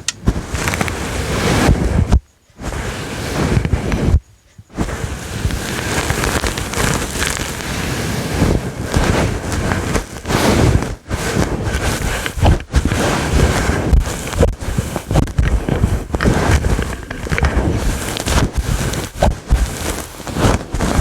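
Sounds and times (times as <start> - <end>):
fingers scratching microphone windscreen: 0.0 - 21.0.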